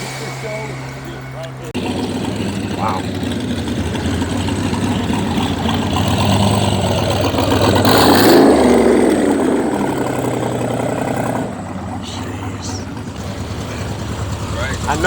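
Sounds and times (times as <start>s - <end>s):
car driving past: 0.0s - 15.0s.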